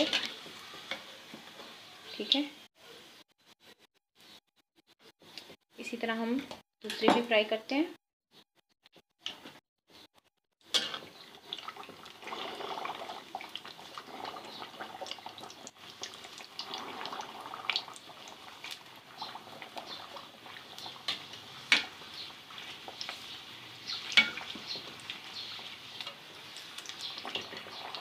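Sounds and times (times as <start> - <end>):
deep-frying sizzle with crackles: 0.0 - 4.4, 9.2 - 28.0.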